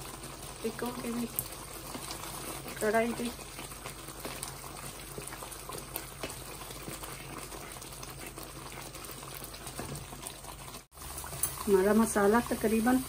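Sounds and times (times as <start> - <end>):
masala bubbling in oil: 0.0 - 13.0.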